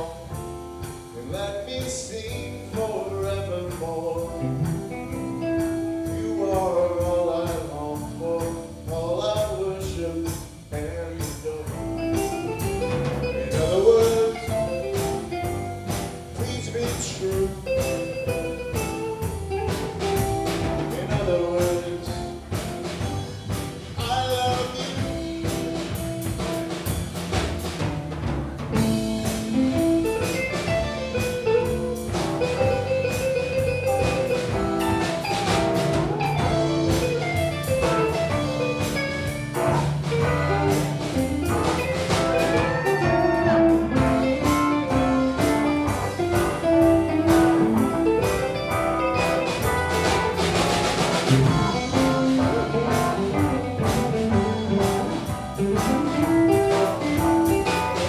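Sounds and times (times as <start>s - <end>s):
band playing instrumental: 0.0s - 58.0s
drum kit beat: 0.0s - 58.0s.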